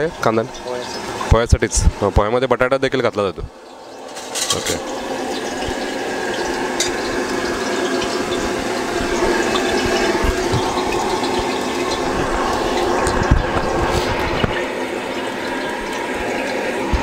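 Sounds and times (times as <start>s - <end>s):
gas burner roaring: 3.4s - 17.0s.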